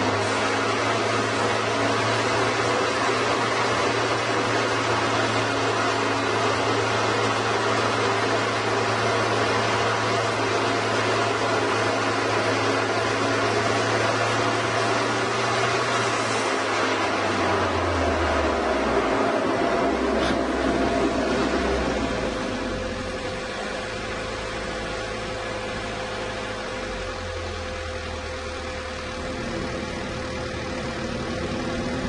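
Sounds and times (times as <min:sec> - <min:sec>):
low machinery hum: 0:00.0 - 0:32.0.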